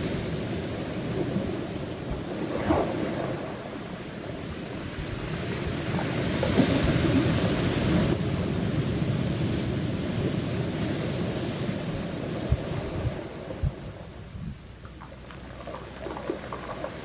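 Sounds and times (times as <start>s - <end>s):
waves washing over rocks: 0.0s - 17.0s
wind buffeting microphone: 0.0s - 17.0s.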